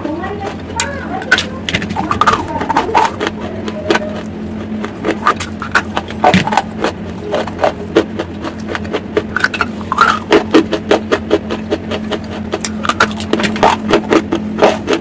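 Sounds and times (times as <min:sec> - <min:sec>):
crunchy chewing: 0:00.0 - 0:15.0
faint steady hum: 0:00.0 - 0:15.0.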